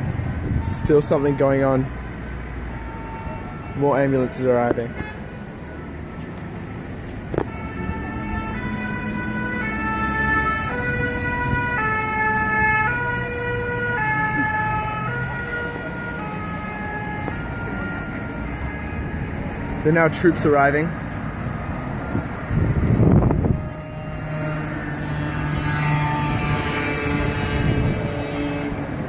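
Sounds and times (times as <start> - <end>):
ambulance two-tone siren: 0.0 - 29.0
traffic: 0.0 - 29.0.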